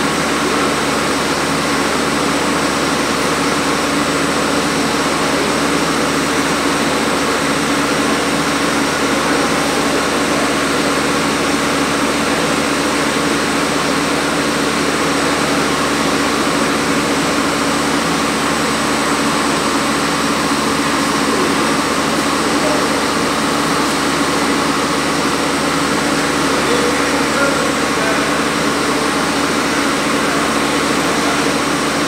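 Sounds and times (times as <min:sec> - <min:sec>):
mechanical hum: 0:00.0 - 0:32.0.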